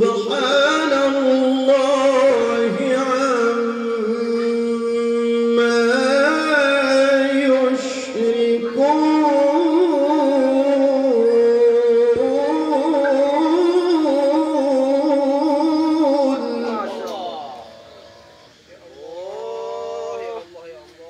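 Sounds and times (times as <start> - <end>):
man reciting melodically: 0.0 - 17.8.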